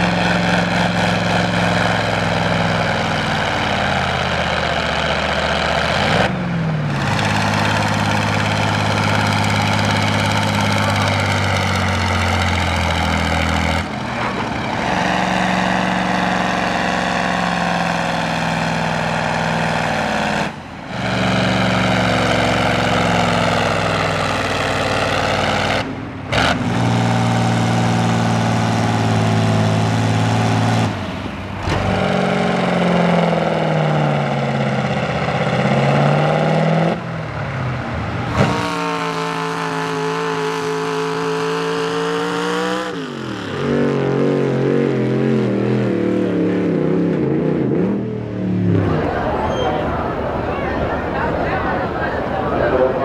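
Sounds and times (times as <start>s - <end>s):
diesel tractor engines under load: 0.0s - 53.0s
pickup truck engine pulling: 0.0s - 53.0s.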